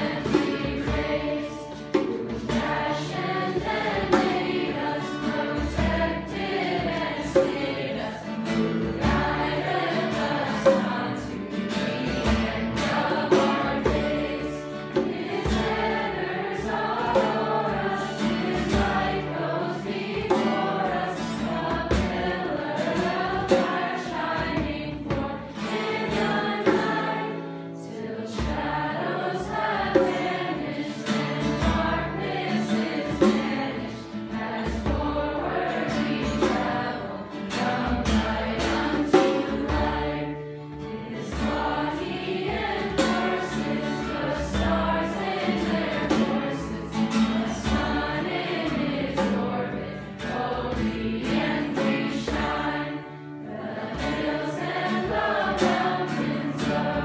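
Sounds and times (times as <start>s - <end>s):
young voices singing a hymn: 0.0s - 57.0s.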